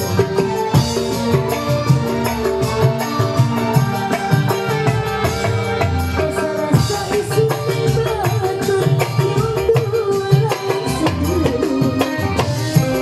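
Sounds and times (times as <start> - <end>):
electronic keyboard melody: 0.0 - 13.0
hand drum beating: 0.0 - 13.0.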